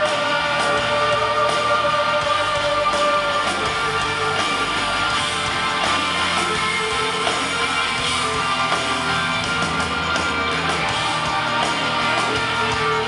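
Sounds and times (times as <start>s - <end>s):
bass guitar: 0.0s - 13.0s
drums: 0.0s - 13.0s
electric guitar: 0.0s - 13.0s.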